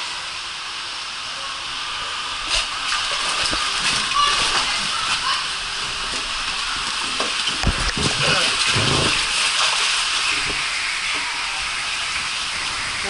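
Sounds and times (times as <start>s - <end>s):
water rushing on a water slide: 0.0s - 13.0s.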